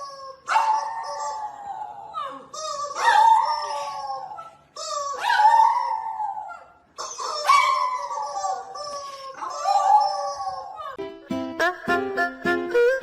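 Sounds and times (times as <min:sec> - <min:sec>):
dog howling: 0:00.0 - 0:11.0.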